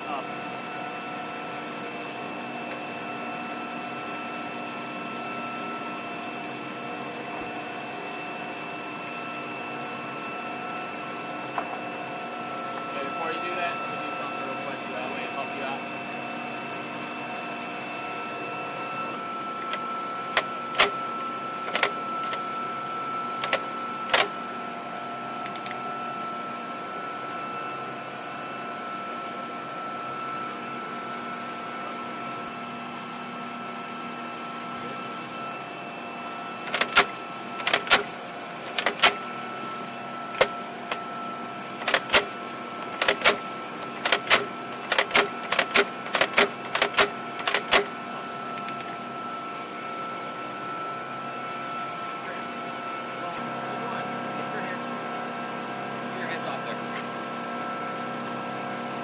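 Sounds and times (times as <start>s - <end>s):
thin high whine: 0.0s - 24.5s, 31.8s - 54.8s
machinery hum: 0.0s - 57.0s.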